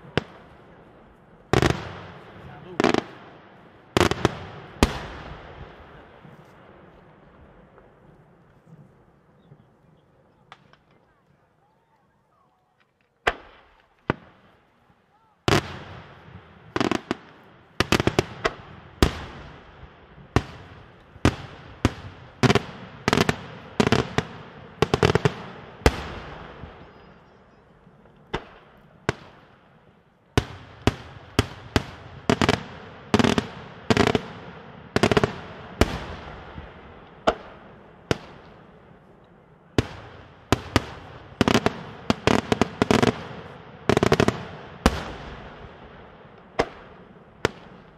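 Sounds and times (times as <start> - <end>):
fireworks bangs with echo: 0.0 - 8.1, 13.2 - 14.6, 15.2 - 47.9.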